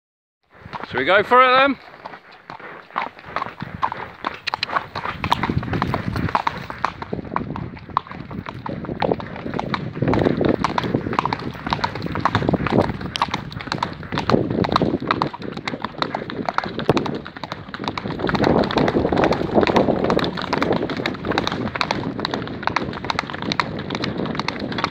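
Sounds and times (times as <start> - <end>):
hoofbeats on stony track: 0.5 - 24.9.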